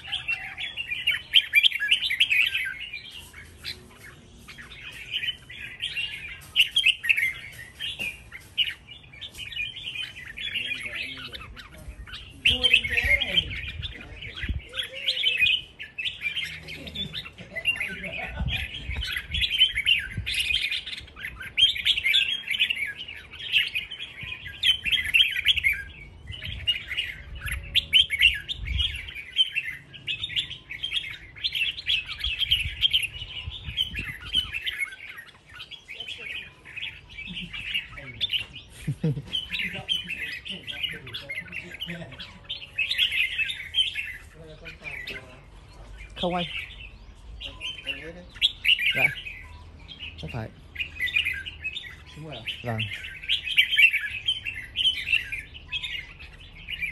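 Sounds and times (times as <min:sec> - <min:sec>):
birds rapid chirping song: 0:00.0 - 0:56.9.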